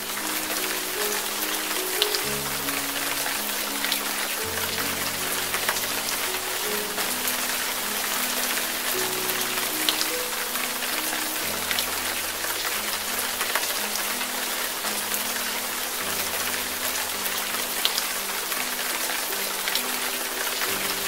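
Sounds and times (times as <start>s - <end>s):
heavy rain on water: 0.0s - 21.0s
soft background music: 0.0s - 21.0s.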